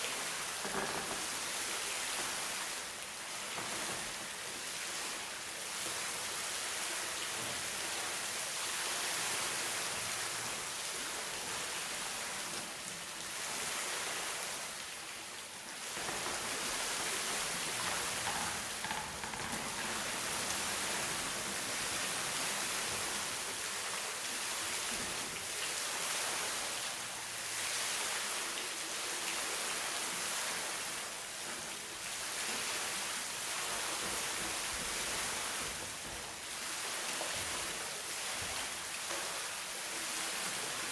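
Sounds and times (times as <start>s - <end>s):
running water hiss: 0.0s - 40.9s.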